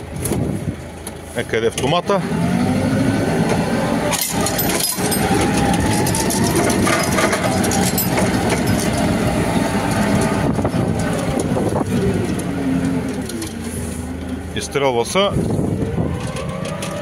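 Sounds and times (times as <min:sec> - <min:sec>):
forklift engine running: 0:00.0 - 0:17.0.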